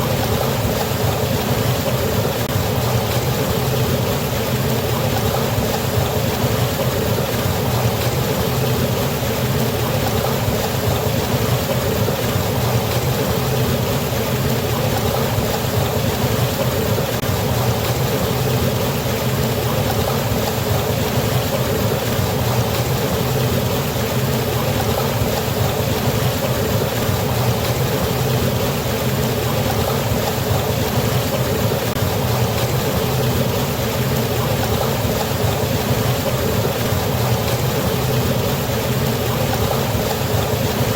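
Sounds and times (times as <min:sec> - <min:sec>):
waterfall roar: 0:00.0 - 0:40.9.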